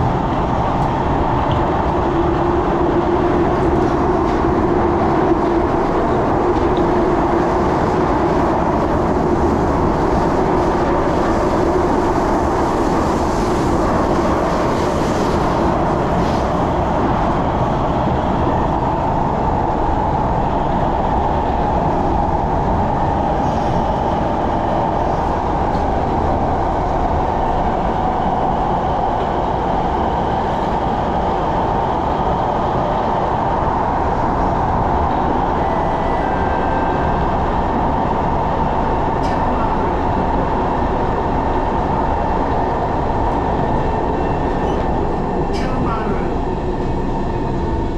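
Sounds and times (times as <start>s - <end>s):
train rumbling on rails: 0.0s - 47.9s.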